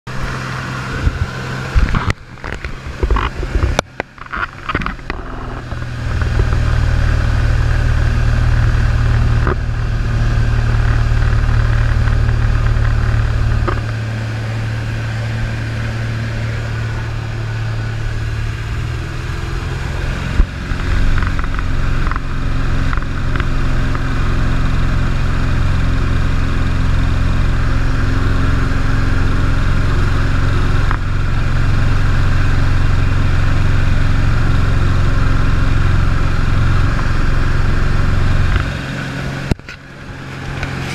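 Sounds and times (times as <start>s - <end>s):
plane engine and propeller drone: 0.1s - 40.9s.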